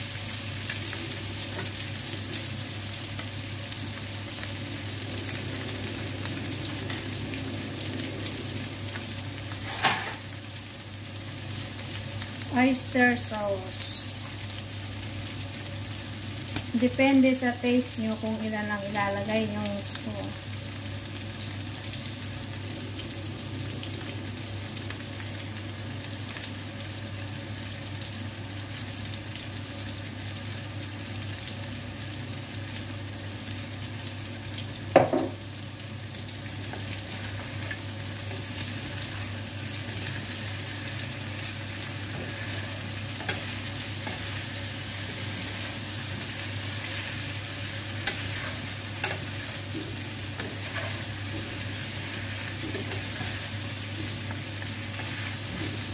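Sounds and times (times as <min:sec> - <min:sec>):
food sizzling in frying pan: 0:00.0 - 0:55.9.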